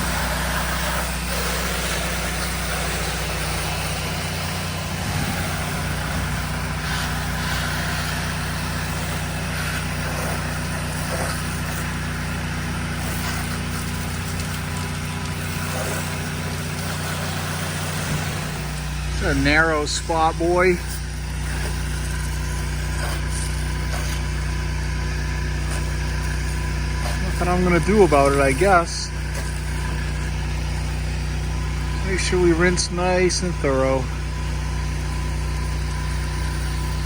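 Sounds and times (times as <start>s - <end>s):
pressure washer engine running: 0.0s - 37.0s.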